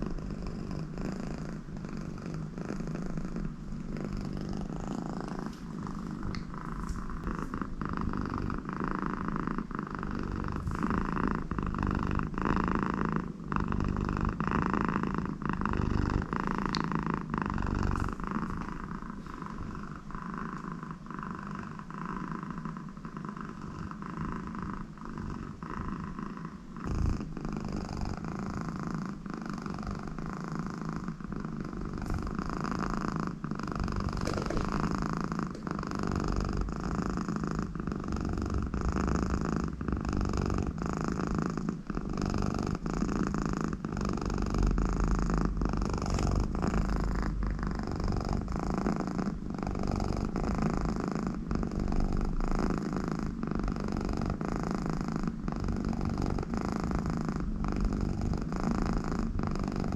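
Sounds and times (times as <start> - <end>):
cat purring loudly: 0.0 - 59.9.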